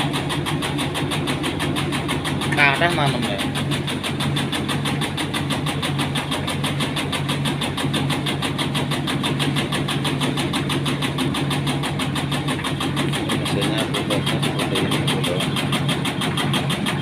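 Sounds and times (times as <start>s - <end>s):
cutting machine humming and ticking: 0.0s - 17.0s.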